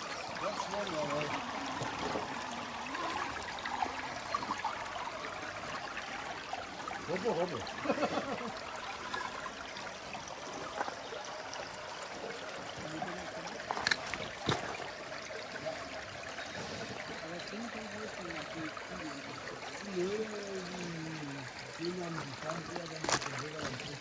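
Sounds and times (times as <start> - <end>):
stream rushing and trickling: 0.0 - 24.0.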